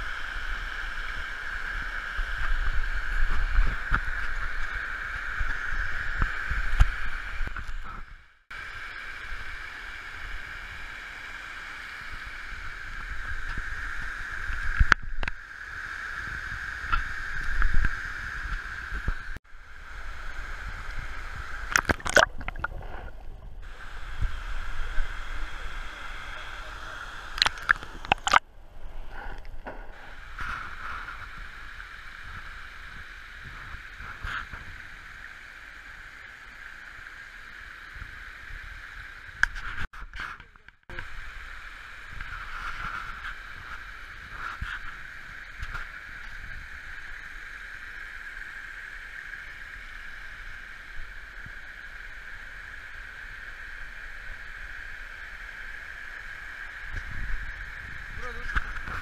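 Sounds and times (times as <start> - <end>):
stream water sloshing and gurgling: 0.0 - 25.9, 27.2 - 53.1.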